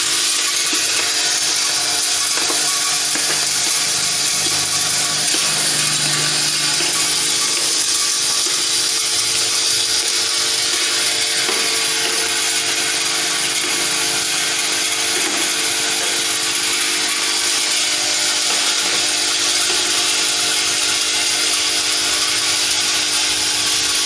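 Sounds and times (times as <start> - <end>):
electromagnetic hum: 0.0 - 24.0.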